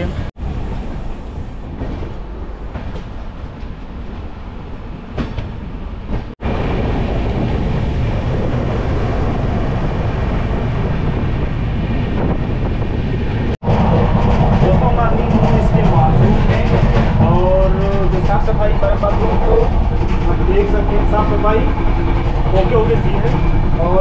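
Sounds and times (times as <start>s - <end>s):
train wheels rumbling and clacking: 0.0s - 24.0s.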